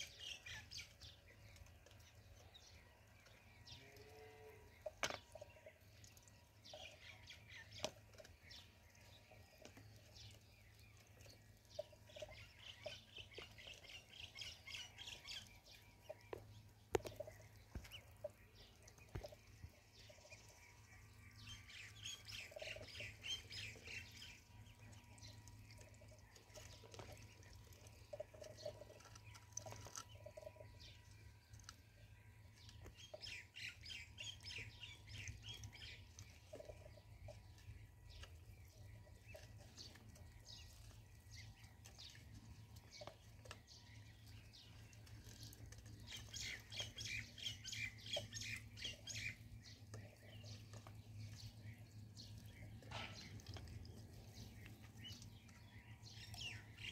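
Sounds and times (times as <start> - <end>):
ducklings peeping: 0.0 - 56.9.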